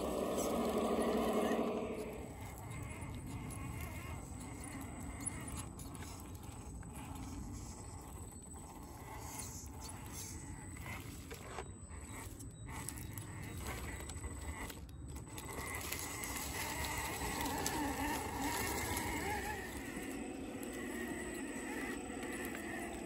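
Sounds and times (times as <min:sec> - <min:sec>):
scraping and crunching on rough ground: 0:00.0 - 0:23.0
toy truck motor whining: 0:00.0 - 0:23.0.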